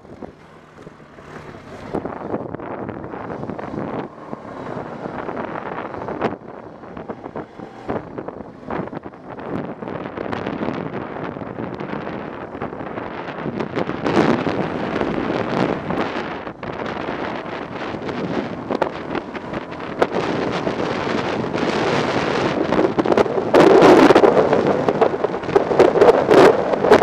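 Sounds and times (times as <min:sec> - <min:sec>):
atv engine running: 0:00.0 - 0:27.0
wind buffeting microphone: 0:00.0 - 0:27.0.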